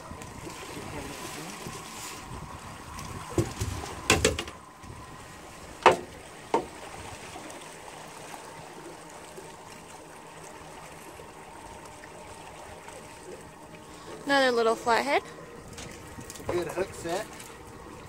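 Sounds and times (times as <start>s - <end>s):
water washing around boat: 0.0s - 18.0s.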